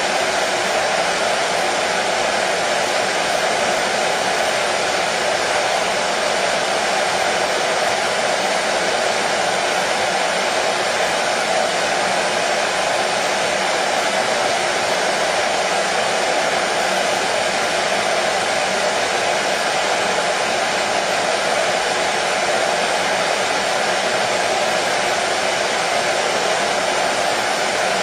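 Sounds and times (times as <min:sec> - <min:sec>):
hair dryer running: 0:00.0 - 0:28.0.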